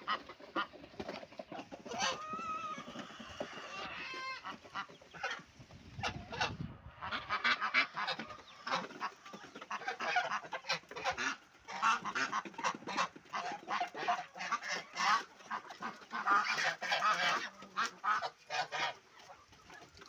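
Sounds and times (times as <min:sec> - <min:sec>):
poultry honking calls: 0:01.8 - 0:19.4.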